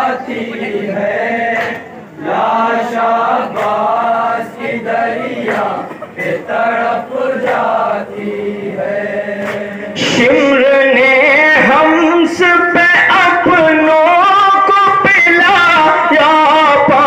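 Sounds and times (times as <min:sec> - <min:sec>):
men chanting a lament in chorus: 0:00.0 - 0:17.0.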